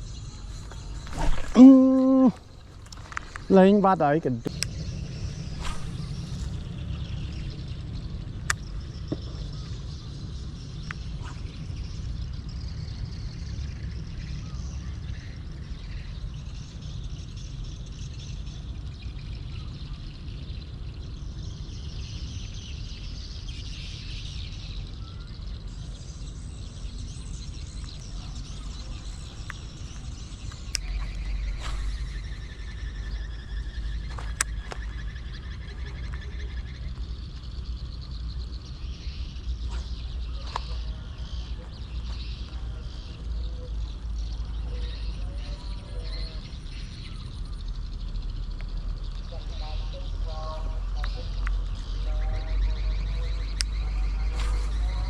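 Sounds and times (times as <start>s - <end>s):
faint bird chirps: 0.0s - 55.0s
wind rumble on microphone: 0.0s - 55.0s.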